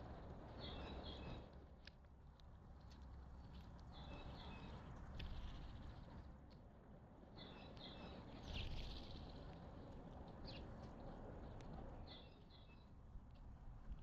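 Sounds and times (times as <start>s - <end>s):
faint low outdoor rumble: 0.0s - 14.0s.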